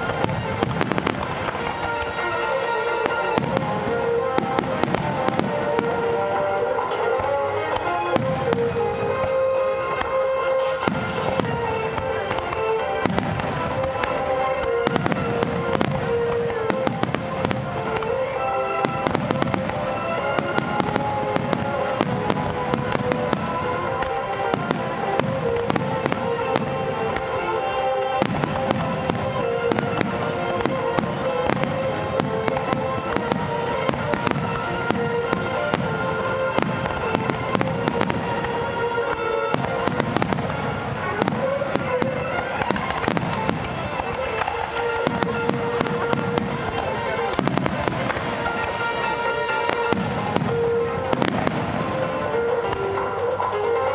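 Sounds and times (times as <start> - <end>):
firework crackling: 0.0 - 53.9
music with held notes: 0.0 - 53.9.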